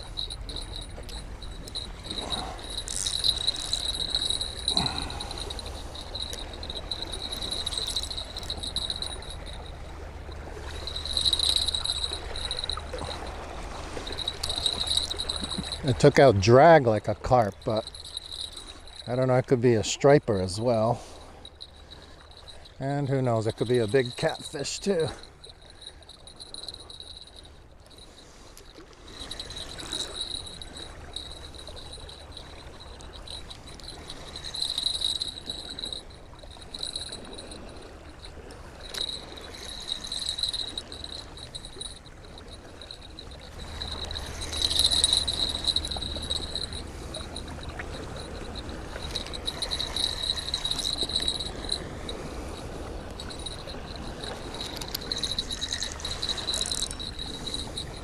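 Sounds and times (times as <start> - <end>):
fishing reel clicking and whirring: 0.0 - 58.0.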